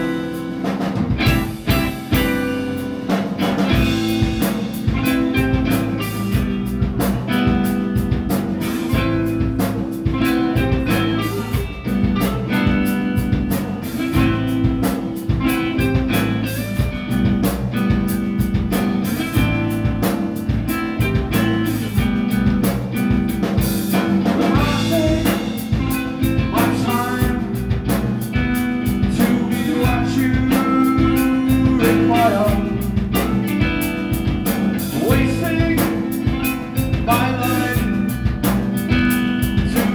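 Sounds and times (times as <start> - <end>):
distorted electric guitars: 0.0 - 39.9
drum kit playing: 0.0 - 39.9.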